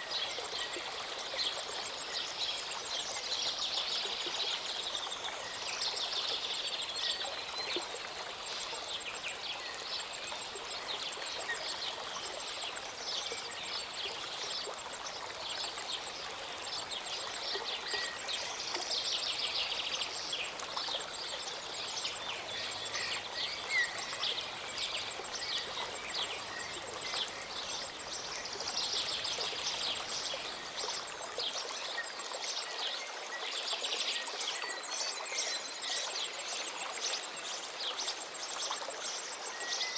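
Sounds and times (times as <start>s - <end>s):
songbirds chirping and trilling: 0.0s - 32.1s.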